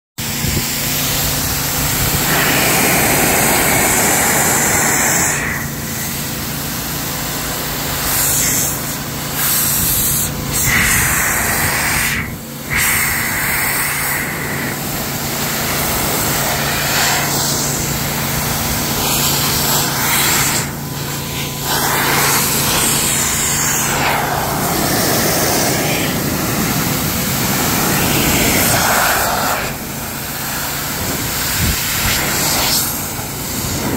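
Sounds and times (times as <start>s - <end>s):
air blower rushing: 0.2s - 33.9s
steady motor hum: 0.2s - 33.9s.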